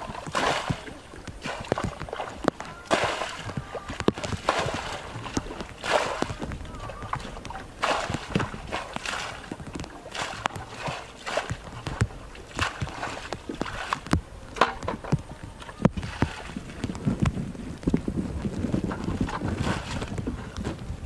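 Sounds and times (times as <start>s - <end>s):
bucket sloshing in muddy water: 0.0s - 21.0s
sharp knocks and splats: 0.0s - 21.0s.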